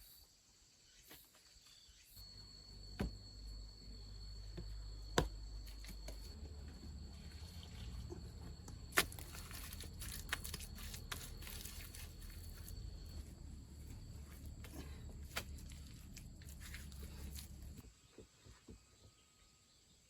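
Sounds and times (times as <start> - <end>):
insect trill: 0.0 - 18.1.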